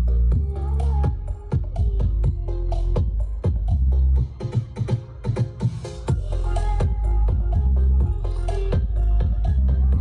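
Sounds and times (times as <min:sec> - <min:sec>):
electronic dance music: 0:00.0 - 0:10.0
heavy bass: 0:00.0 - 0:10.0.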